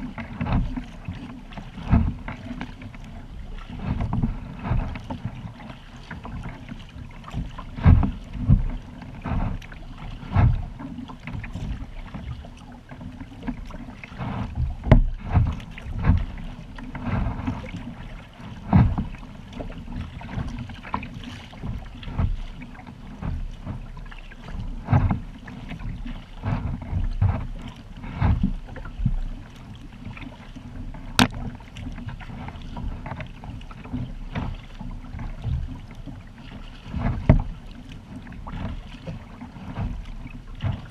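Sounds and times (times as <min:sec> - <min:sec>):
paddle strokes: 0:00.0 - 0:40.9
water slapping against hull: 0:00.0 - 0:40.9.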